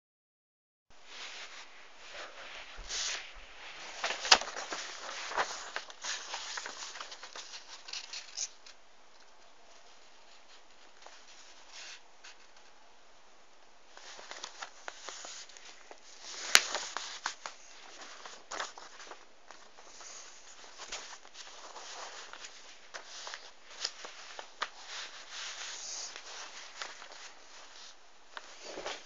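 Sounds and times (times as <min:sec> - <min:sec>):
paper rustling and crackling: 0:01.2 - 0:12.7, 0:13.9 - 0:29.0.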